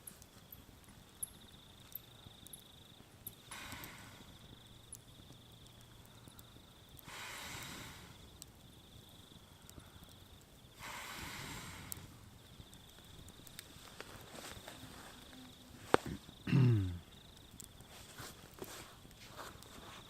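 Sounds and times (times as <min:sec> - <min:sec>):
campfire crackling and popping: 0:00.0 - 0:20.0
insects trilling: 0:00.0 - 0:20.0
loud crack of fire: 0:00.0 - 0:20.0.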